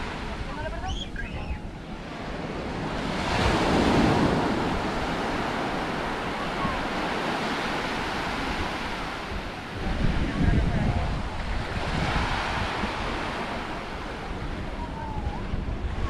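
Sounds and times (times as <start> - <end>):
wave breaking on shore: 0.0 - 16.0.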